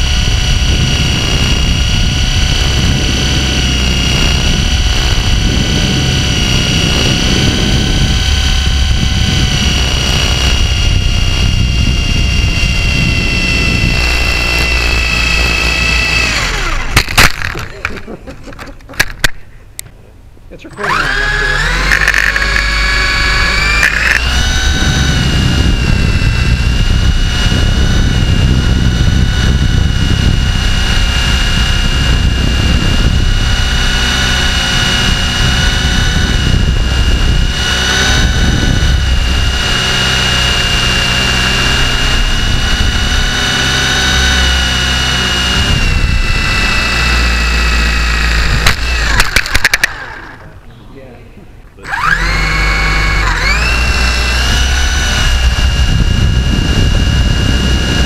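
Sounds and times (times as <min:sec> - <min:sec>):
helicopter motor whine: 0:00.0 - 0:19.3, 0:20.7 - 0:50.9, 0:51.6 - 0:58.0
rotor rumble: 0:00.0 - 0:58.0.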